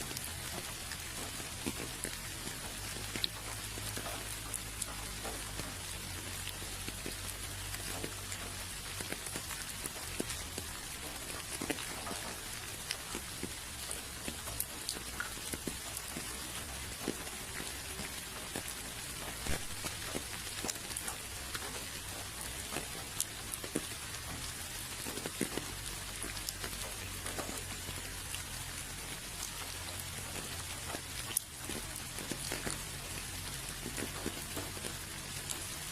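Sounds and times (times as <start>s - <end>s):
rain pattering: 0.0s - 35.9s.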